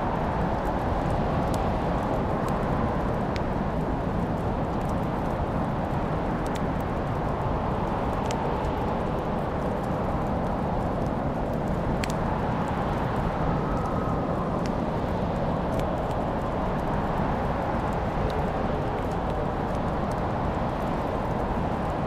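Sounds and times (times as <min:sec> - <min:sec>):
fire low rumble: 0:00.0 - 0:22.0
fire crackles and pops: 0:00.1 - 0:22.0.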